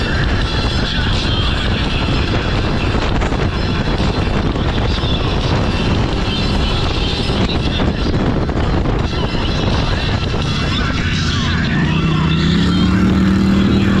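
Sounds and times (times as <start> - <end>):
atv engine running: 0.0 - 14.0
wind noise on microphone: 0.0 - 14.0.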